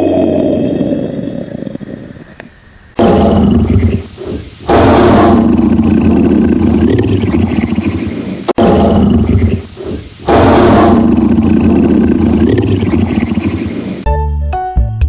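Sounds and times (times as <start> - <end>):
big cat roaring: 0.0 - 2.1, 3.0 - 13.6.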